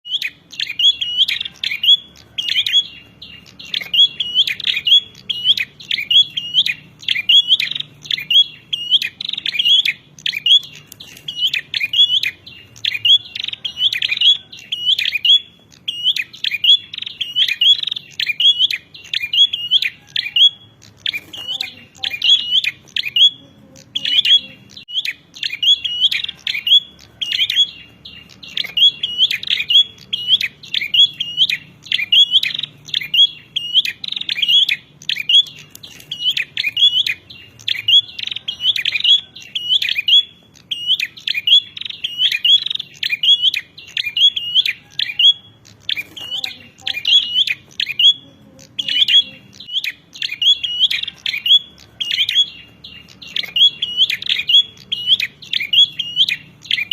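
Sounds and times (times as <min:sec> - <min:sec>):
bird rapid high chirps: 0:00.0 - 0:56.9.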